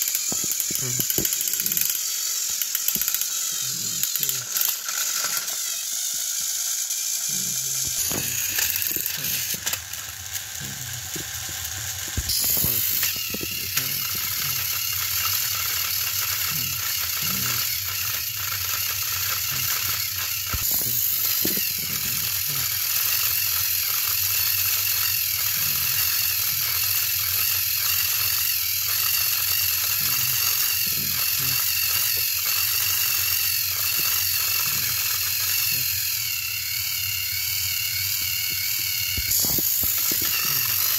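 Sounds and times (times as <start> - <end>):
toy train motor whirring: 0.0 - 40.9.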